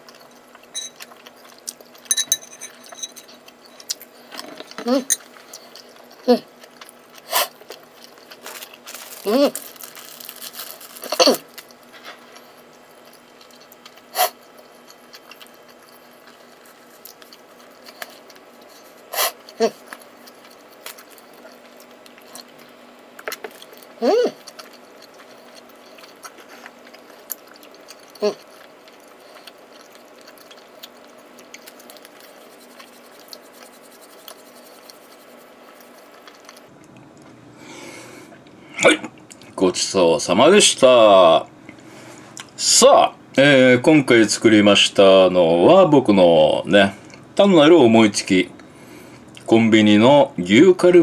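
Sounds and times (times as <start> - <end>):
room hum: 0.0 - 51.0.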